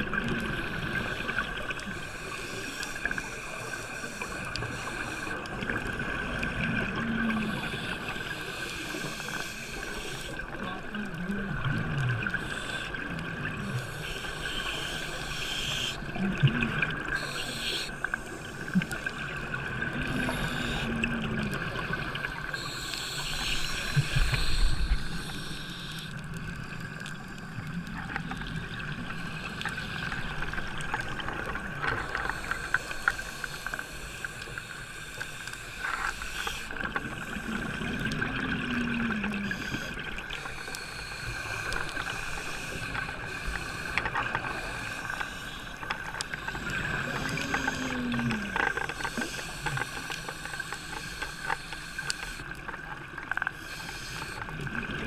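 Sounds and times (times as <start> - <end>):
scuba regulator breathing bubbles: 0.2 - 10.5, 11.1 - 55.0.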